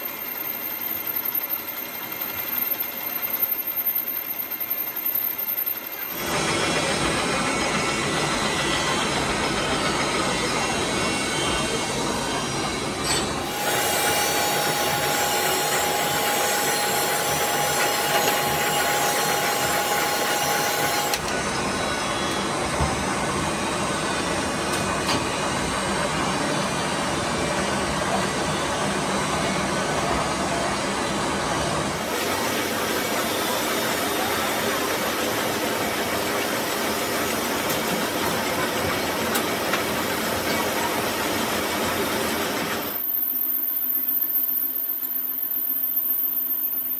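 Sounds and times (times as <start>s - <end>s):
lathe machine running: 0.0s - 43.4s.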